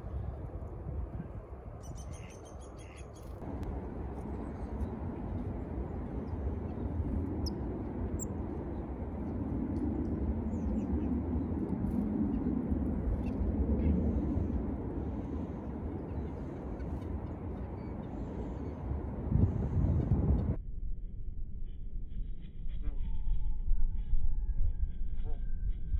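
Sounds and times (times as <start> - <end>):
low outdoor rumble: 3.4 - 25.9.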